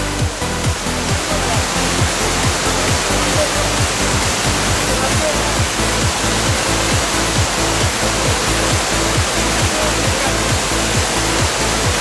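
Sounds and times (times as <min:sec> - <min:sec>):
background music with fast beat: 0:00.0 - 0:12.0
waterfall and stream rushing: 0:00.0 - 0:12.0.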